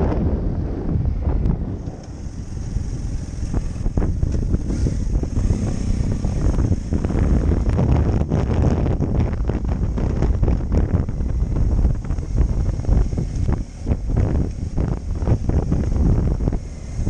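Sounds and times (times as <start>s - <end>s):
motorcycle engine: 0.0s - 17.0s
wind buffeting microphone: 0.0s - 17.0s.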